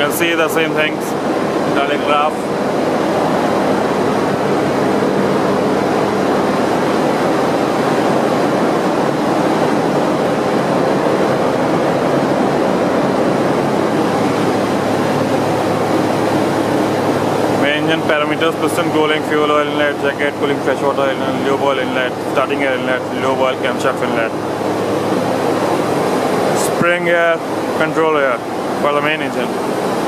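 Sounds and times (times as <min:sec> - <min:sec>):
engine room machinery din: 0:00.0 - 0:30.0
low steady hum: 0:00.0 - 0:30.0.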